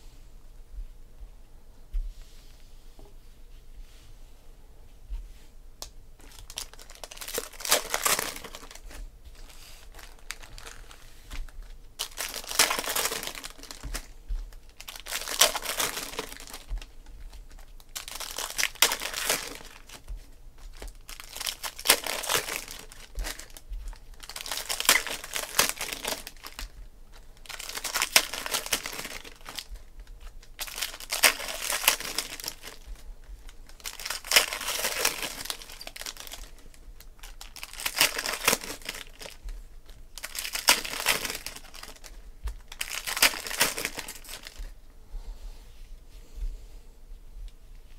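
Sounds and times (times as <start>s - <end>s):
foil wrappers crinkling and tearing: 6.2s - 44.8s.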